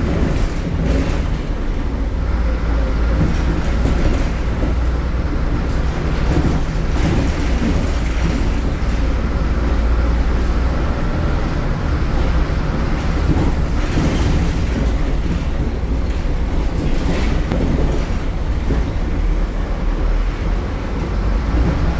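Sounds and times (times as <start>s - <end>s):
bus diesel engine drone: 0.0s - 21.9s
road noise: 0.0s - 21.9s.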